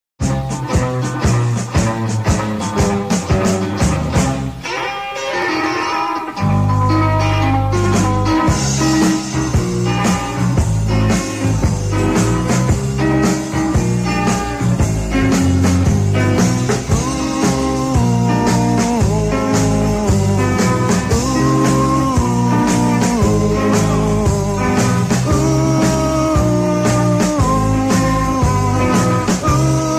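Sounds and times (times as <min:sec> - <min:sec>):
bass line: 0:00.2 - 0:04.6, 0:06.4 - 0:29.9
electric guitar lines: 0:00.2 - 0:29.9
rock band playing: 0:00.2 - 0:29.9.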